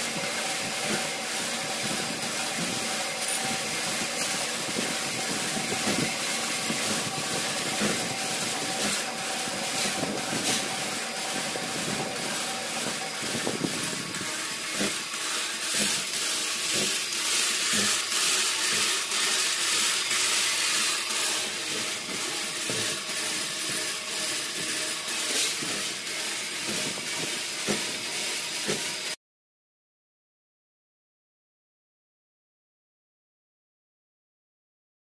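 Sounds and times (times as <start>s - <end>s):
metal lathe hissing: 0.0s - 29.2s.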